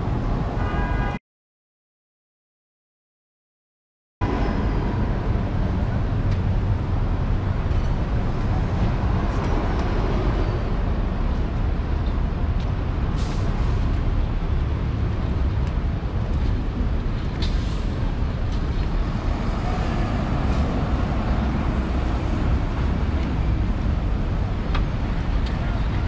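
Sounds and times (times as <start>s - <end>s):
subway train rumbling: 4.2s - 26.0s.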